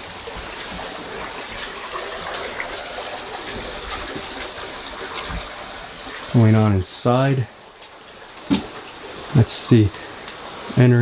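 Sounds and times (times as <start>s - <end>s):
stream trickling and babbling: 0.0s - 11.0s.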